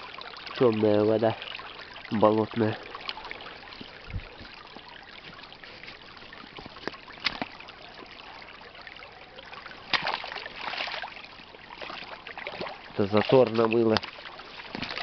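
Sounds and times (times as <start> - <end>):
stream trickling: 0.0 - 15.0.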